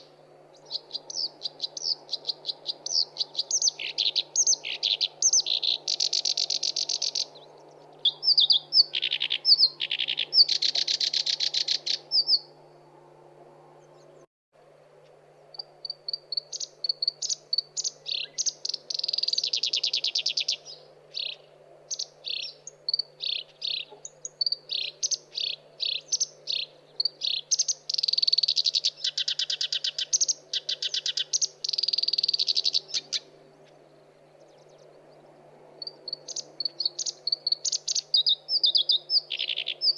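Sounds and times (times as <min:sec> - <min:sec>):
warbler singing: 0:00.0 - 0:12.8, 0:13.7 - 0:14.3, 0:15.5 - 0:39.9
faint low hum: 0:00.0 - 0:39.9.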